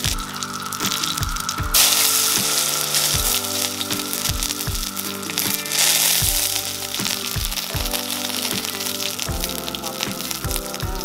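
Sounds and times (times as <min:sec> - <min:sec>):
background music with beat: 0:00.0 - 0:11.0
deep frying sizzle: 0:00.0 - 0:11.0.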